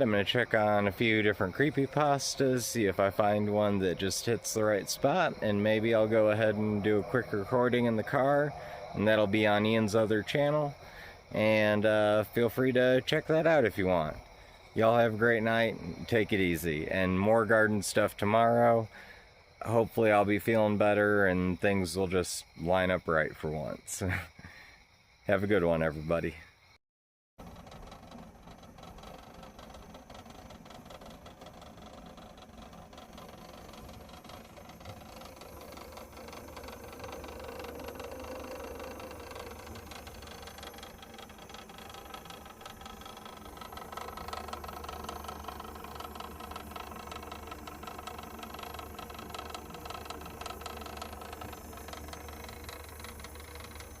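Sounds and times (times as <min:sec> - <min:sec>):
low mechanical hum: 0:00.0 - 0:23.3, 0:27.4 - 0:54.0.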